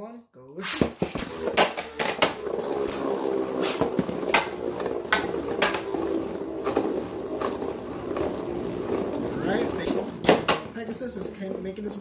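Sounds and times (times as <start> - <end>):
spinning tops whirring: 1.1 - 11.2.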